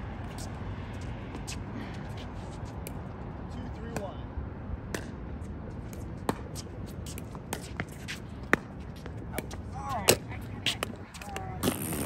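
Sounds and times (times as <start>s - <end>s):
shoes shuffling on court: 0.0s - 4.1s, 5.4s - 12.0s.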